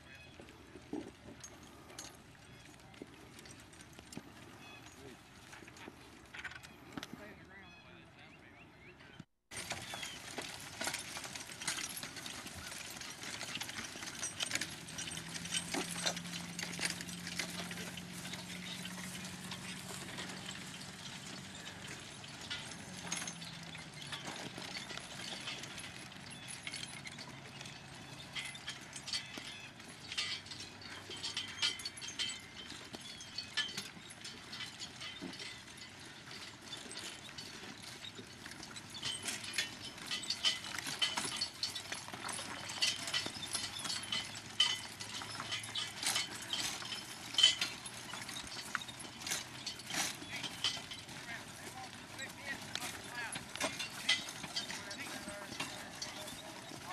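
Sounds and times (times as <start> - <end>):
harness chains clinking: 0.0 - 8.0, 9.5 - 56.9
horse hoof steps: 0.0 - 8.2, 9.1 - 56.9.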